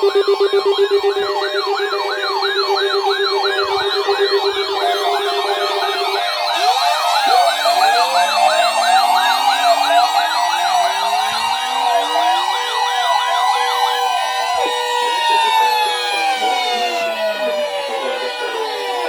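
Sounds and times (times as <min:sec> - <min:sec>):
sirens wailing: 0:00.0 - 0:19.0.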